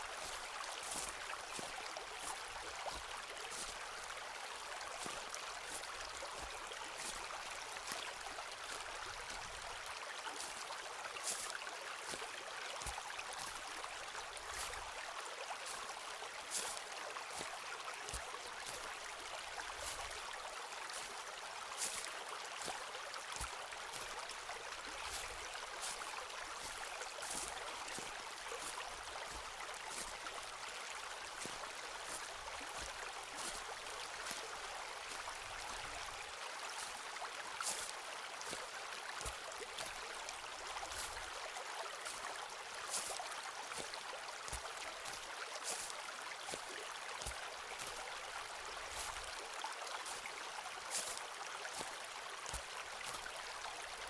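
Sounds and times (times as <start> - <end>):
footsteps on forest path: 0.0 - 54.0.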